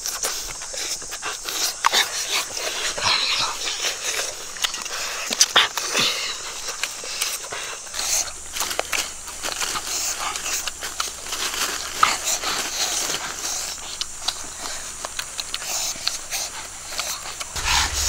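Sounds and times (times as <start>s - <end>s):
people chewing and crunching: 0.0s - 18.0s.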